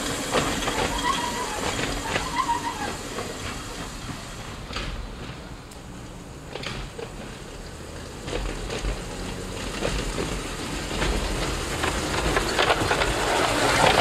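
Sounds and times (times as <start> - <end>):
model streetcar wheels on rail: 0.0 - 14.0.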